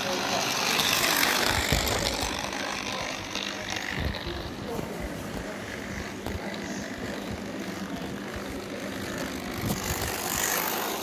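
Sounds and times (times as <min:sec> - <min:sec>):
mechanical whirring hum: 0:00.0 - 0:11.0.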